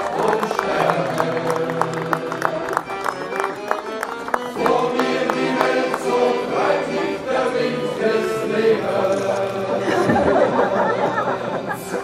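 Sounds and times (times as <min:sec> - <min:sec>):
choir singing a sea shanty: 0:00.0 - 0:12.0.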